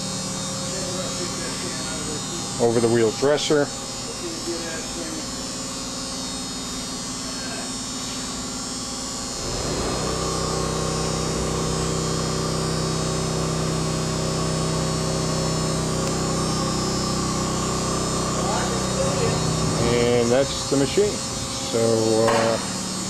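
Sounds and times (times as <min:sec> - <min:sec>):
machinery hum: 0:00.0 - 0:23.0
motor running: 0:00.0 - 0:23.0.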